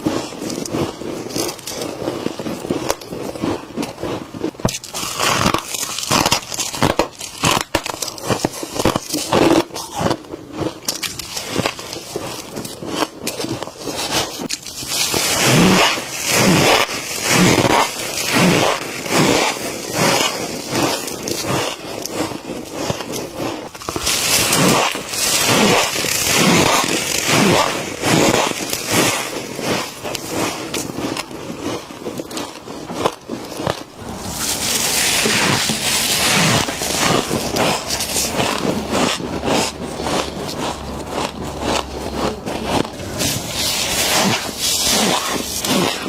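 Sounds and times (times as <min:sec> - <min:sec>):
frost being chewed: 0:00.1 - 0:46.0.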